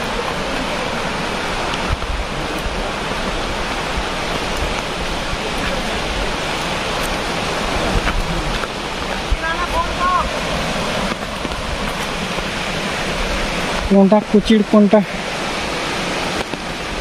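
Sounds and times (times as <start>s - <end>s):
waterfall rushing hiss: 0.0s - 17.0s.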